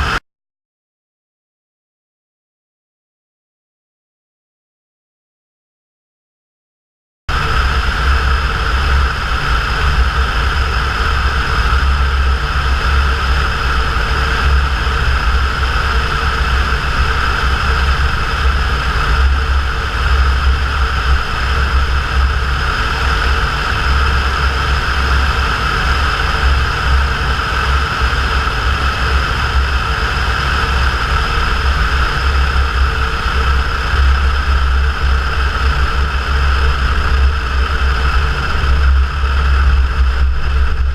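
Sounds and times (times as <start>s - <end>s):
propeller plane engine drone: 0.0s - 0.2s, 7.3s - 40.9s.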